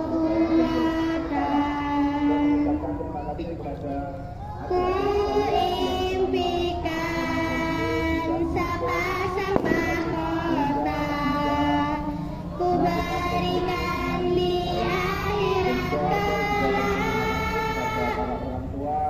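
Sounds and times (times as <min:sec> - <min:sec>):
children singing together: 0:00.0 - 0:02.9, 0:04.3 - 0:19.0.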